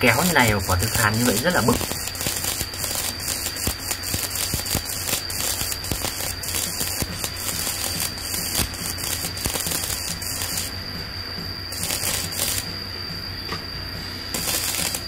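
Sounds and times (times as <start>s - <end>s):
welding arc crackling with pops: 0.0s - 13.7s, 14.3s - 15.0s.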